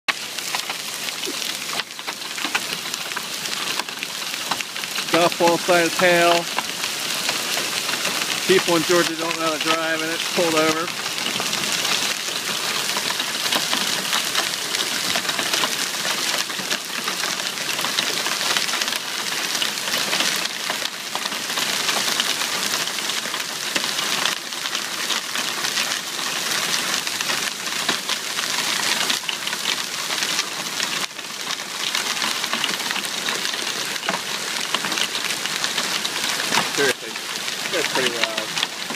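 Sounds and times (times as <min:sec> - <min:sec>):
hail and heavy rain pelting: 0:00.1 - 0:38.9.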